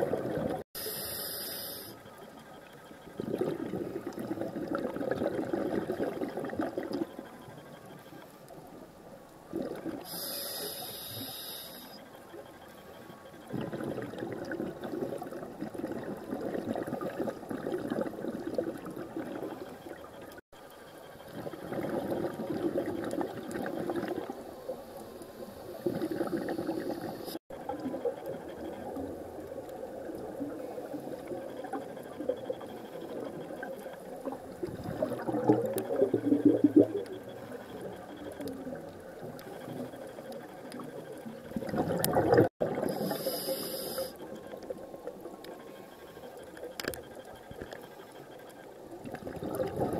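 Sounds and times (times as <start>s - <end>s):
muffled underwater rushing and bubbling: 0.0s - 49.9s.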